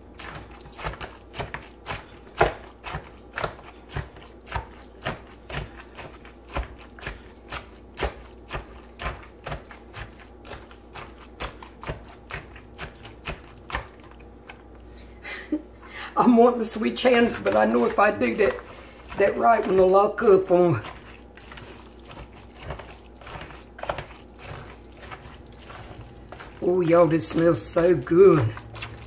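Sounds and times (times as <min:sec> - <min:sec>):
food chopper chopping in bowl: 0:00.0 - 0:14.6, 0:17.1 - 0:29.0.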